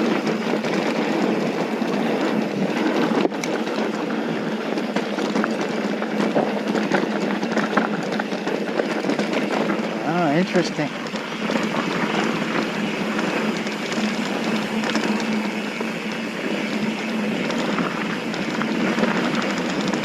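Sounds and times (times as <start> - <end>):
bike rattling: 0.0 - 20.0
tyres crunching on dirt: 0.0 - 20.0.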